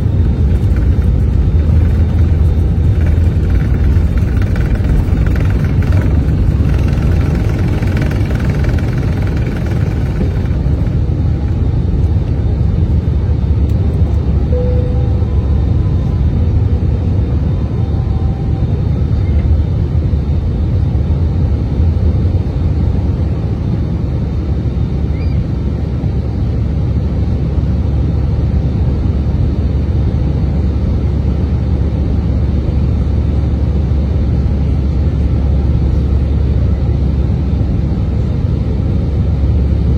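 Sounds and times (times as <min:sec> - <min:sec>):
aircraft engines rumbling in cabin: 0:00.0 - 0:39.9.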